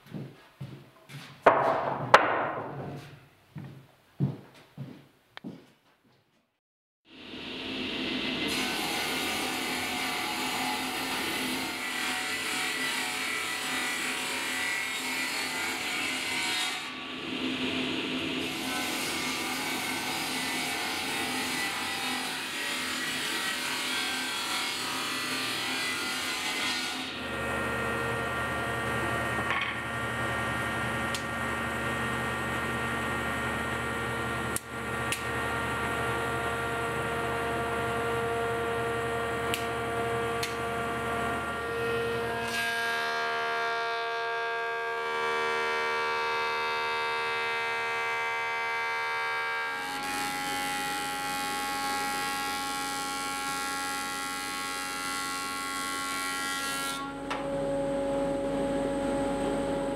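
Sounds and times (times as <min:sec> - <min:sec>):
woodworking machines whining: 0:07.2 - 0:59.9.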